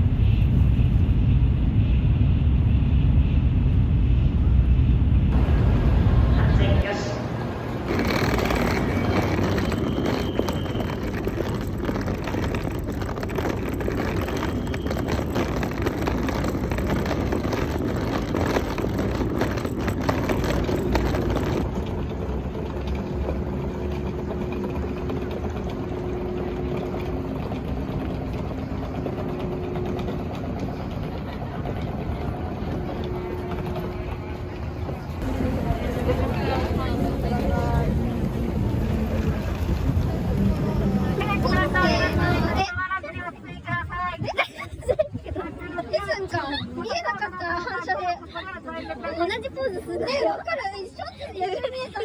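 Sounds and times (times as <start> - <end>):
vehicle rumbling: 0.0 - 52.0.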